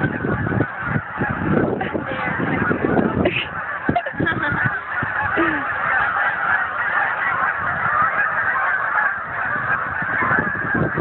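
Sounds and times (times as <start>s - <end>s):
flock of geese honking: 0.0s - 11.0s.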